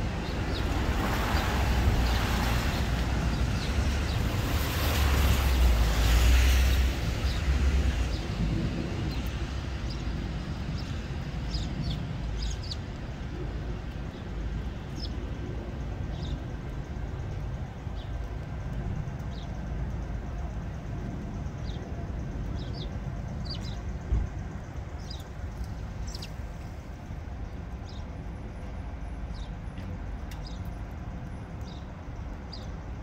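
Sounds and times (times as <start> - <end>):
sparrows chirping: 0.0 - 18.5, 19.2 - 19.7, 21.4 - 33.0
steady outdoor rush: 0.0 - 33.0.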